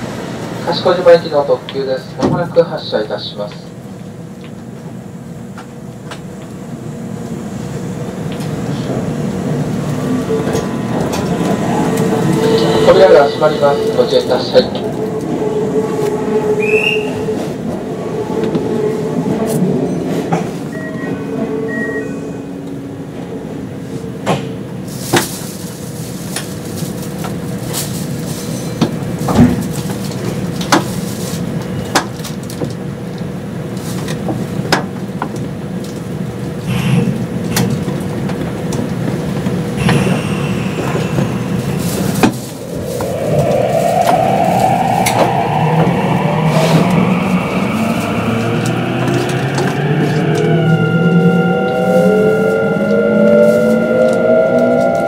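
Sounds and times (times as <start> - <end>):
train motors and wheels rumbling: 0.0 - 55.0.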